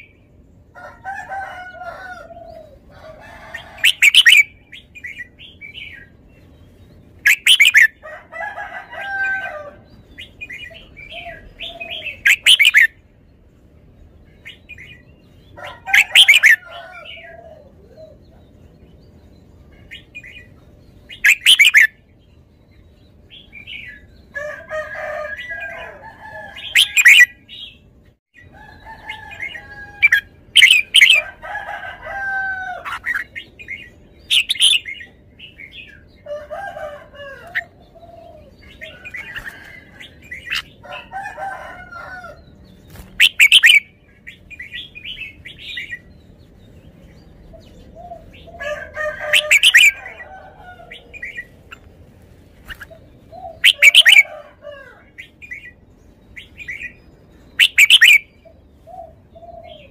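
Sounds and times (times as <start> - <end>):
bird singing warbling phrases: 1.9 - 8.1, 8.9 - 13.2, 14.0 - 51.9, 52.6 - 59.9.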